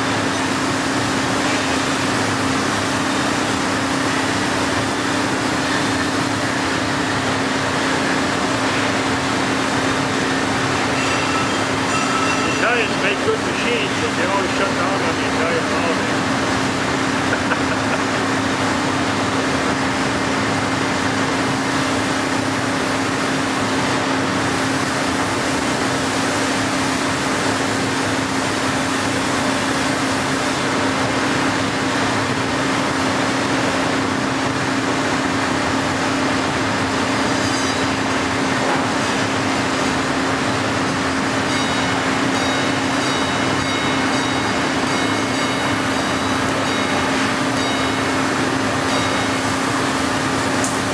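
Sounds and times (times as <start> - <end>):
plate bending machine humming: 0.0 - 50.9.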